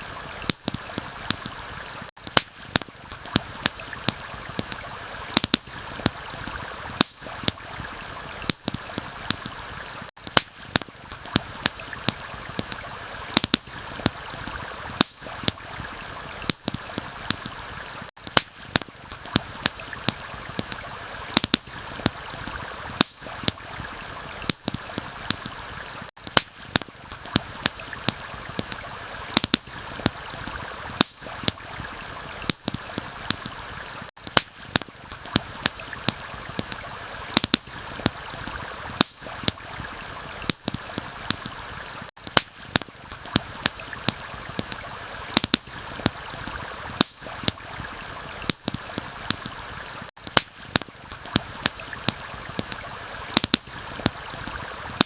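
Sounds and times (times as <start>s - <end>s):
campfire crackling and popping: 0.0s - 55.0s
rushing stream: 0.0s - 55.0s.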